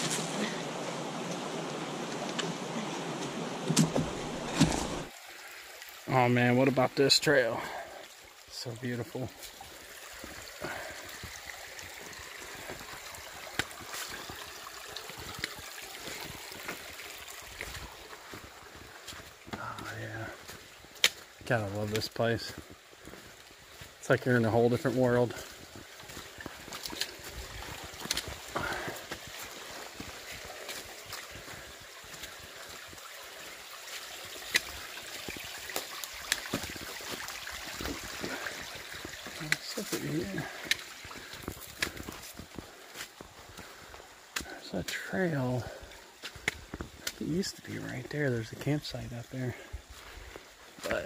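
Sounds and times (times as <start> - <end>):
creek water running: 0.0 - 51.0.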